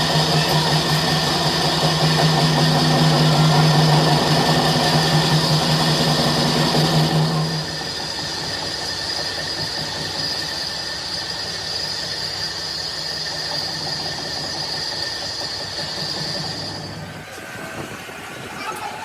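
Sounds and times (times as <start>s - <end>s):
workshop machine whining: 0.0s - 19.0s.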